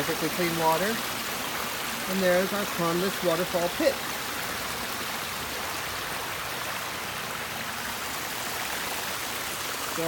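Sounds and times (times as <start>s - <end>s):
waterfall pouring over rocks: 0.0s - 10.0s.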